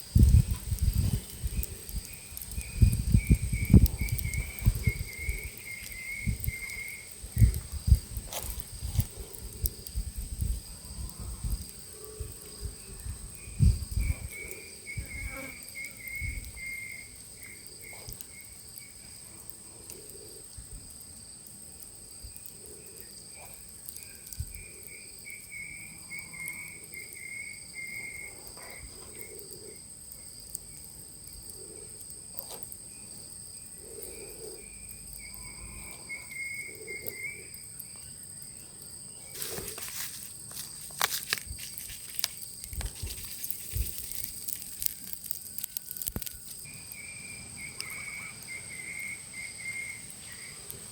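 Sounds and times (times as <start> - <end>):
pulsing insect trill: 0.0 - 19.2, 22.0 - 50.9
high-pitched insect chorus: 0.0 - 50.9.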